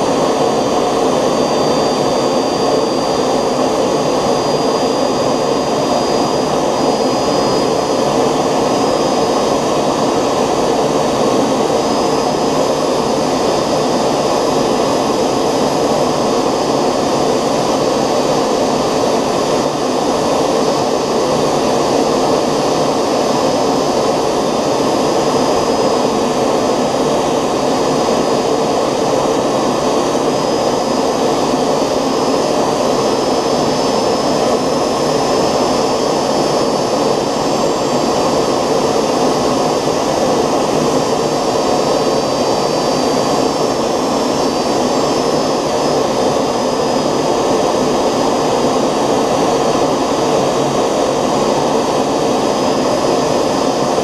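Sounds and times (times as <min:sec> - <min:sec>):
model jet engine roar: 0:00.0 - 0:54.0.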